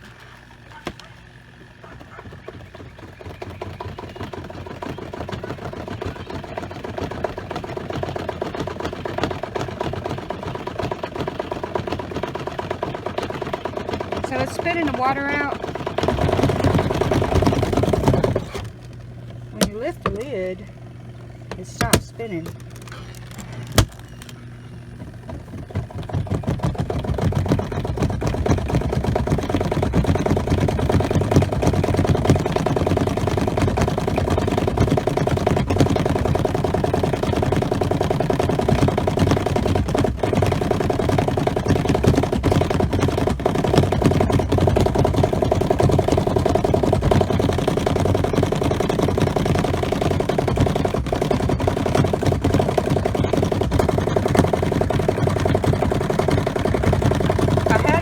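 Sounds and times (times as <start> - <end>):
washer spin motor: 0.0 - 58.0.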